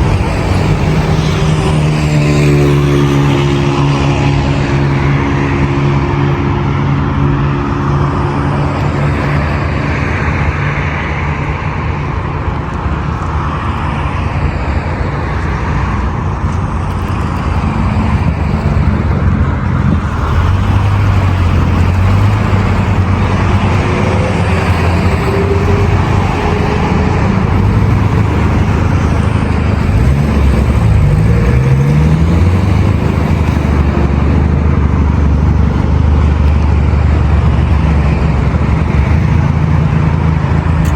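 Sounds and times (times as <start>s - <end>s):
engine revving: 0.0s - 40.9s
heavy road traffic: 0.0s - 40.9s.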